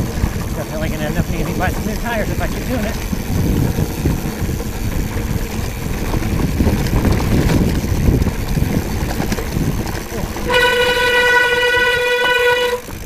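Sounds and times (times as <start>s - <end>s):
bike tyres rolling on dirt: 0.0s - 13.0s
wind buffeting microphone: 0.0s - 13.0s.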